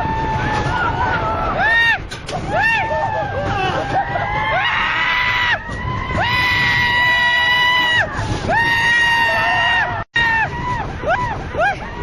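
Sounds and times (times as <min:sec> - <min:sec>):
low rumble: 0:00.0 - 0:12.0
riders screaming: 0:00.0 - 0:12.0.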